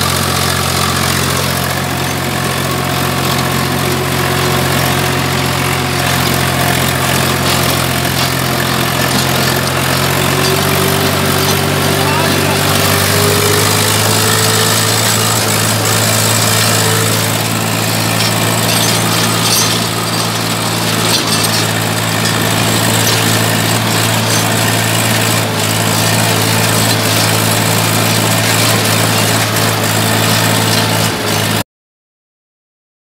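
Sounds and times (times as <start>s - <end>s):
tractor diesel engine running: 0.0s - 31.6s.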